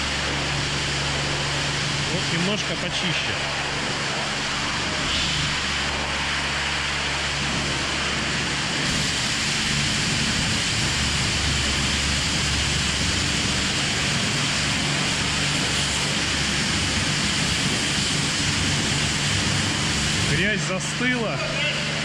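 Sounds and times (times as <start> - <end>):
pressure washer water hiss: 0.0 - 22.0
pump humming: 0.0 - 22.0.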